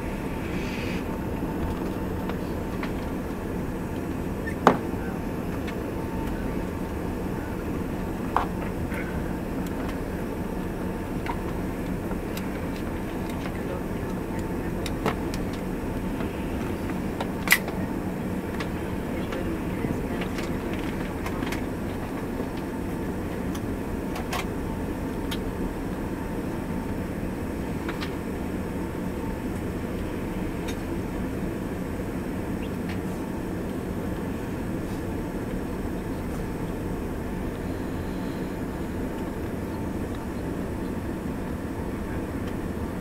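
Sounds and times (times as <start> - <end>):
jet engine cabin hum: 0.0 - 43.0.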